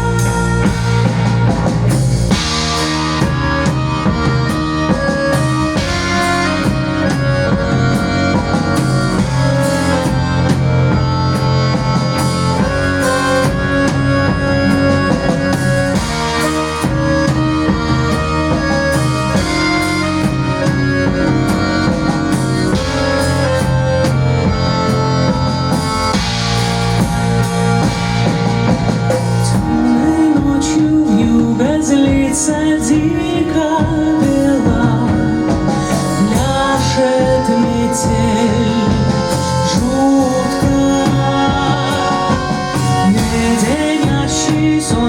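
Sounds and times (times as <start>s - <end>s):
accordion melody: 0.0s - 45.0s
folk-rock band playing: 0.0s - 45.0s.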